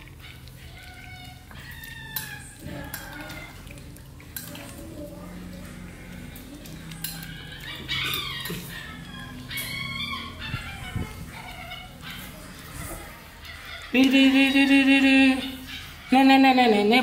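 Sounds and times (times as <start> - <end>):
puppies whining: 0.0 - 17.0.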